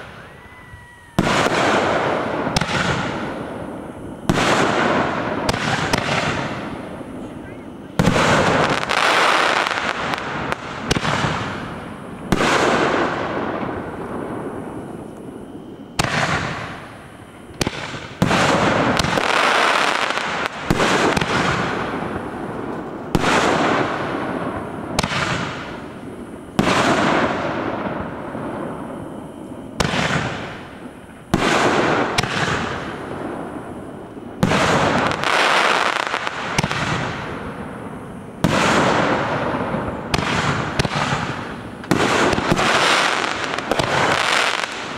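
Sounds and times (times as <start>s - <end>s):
firework bangs: 0.0s - 44.9s
hissing crackle of firework stars: 0.0s - 44.9s.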